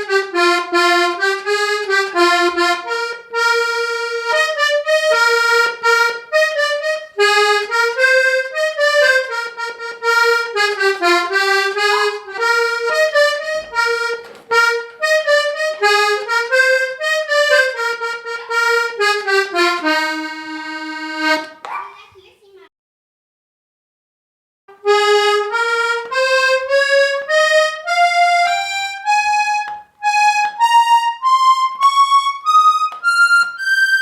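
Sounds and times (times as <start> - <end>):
button accordion playing quick melody: 0.0 - 21.6, 24.7 - 34.0.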